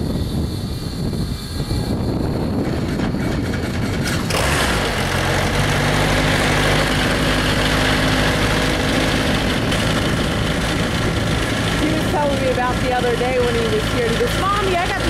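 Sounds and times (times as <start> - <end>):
piston engine idling: 0.7 - 15.0.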